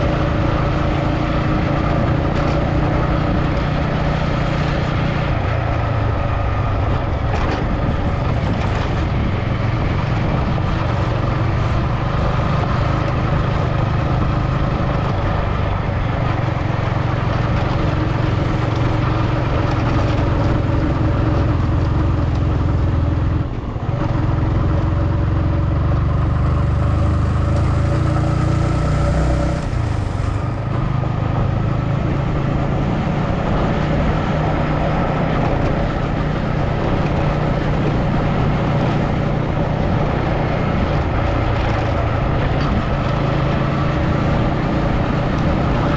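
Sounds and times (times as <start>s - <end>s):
road noise: 0.0s - 45.9s
vehicle engine hum: 0.0s - 45.9s.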